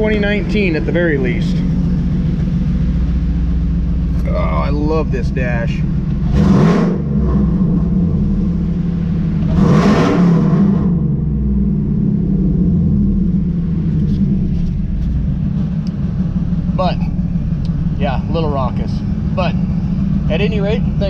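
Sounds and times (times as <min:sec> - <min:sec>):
truck engine idling and revving: 0:00.0 - 0:21.0.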